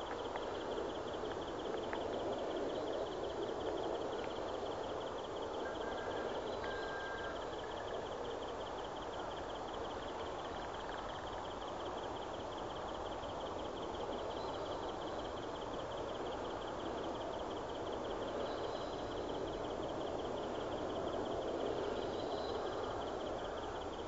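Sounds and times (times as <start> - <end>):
insect pulsing trill: 0.0 - 24.0.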